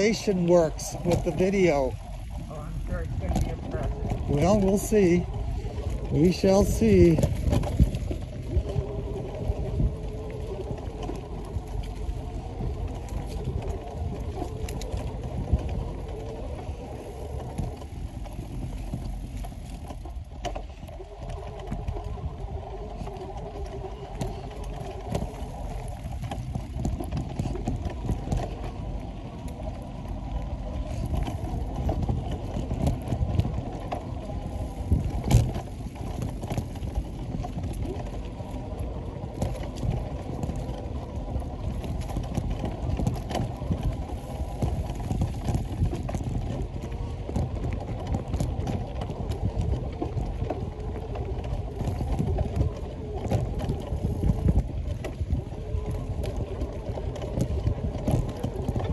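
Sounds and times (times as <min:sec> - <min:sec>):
bicycle tyres on dirt trail: 0:00.0 - 0:58.9
bike clicks and rattles: 0:00.0 - 0:58.9.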